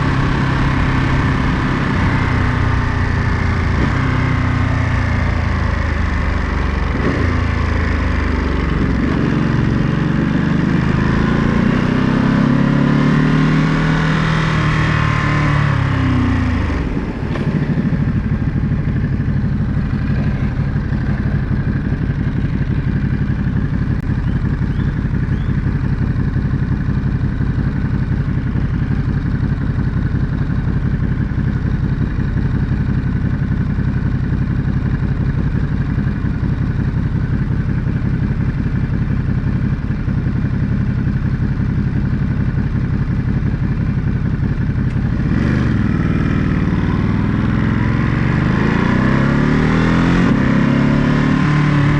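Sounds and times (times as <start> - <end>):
motorcycle engine idling: 0.0 - 11.4, 15.5 - 48.6
motorcycle engine revving: 0.0 - 51.9.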